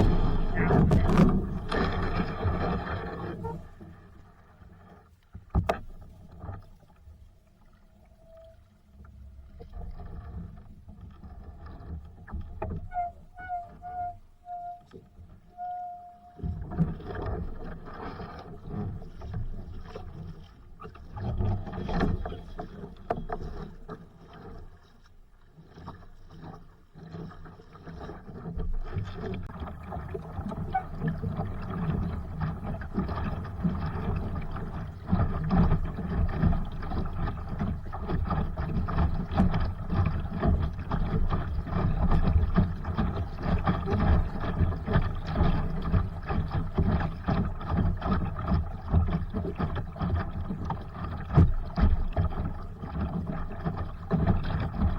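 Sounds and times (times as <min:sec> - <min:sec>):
water splashing along boat hull: 0:00.0 - 0:54.9.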